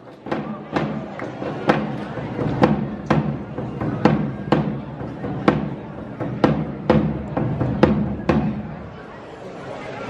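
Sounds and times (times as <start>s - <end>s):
drum beating a march rhythm: 0.2s - 8.9s.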